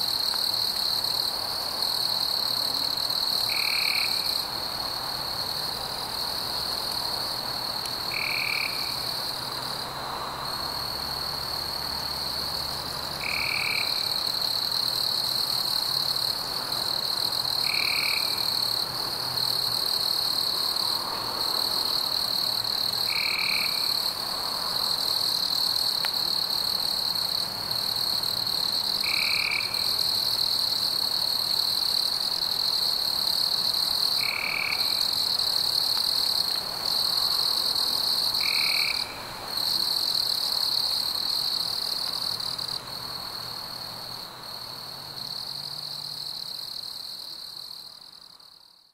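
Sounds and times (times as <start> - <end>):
high-pitched insect trill: 0.0 - 9.6, 10.4 - 18.8, 19.4 - 48.8
short insect call: 0.0 - 48.9.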